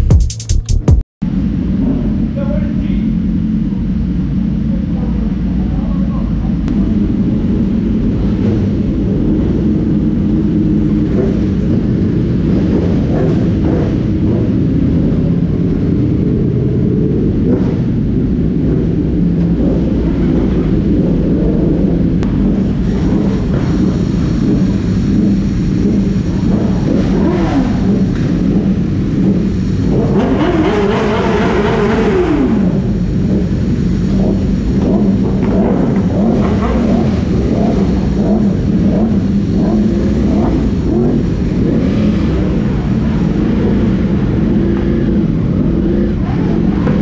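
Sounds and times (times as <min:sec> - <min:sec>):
motorcycle engines idling: 0:01.2 - 0:47.0.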